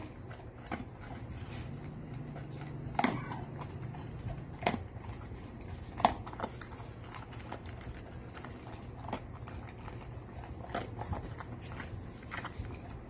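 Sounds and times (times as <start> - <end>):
dog crunching food in glass bowl: 0.0 - 13.0.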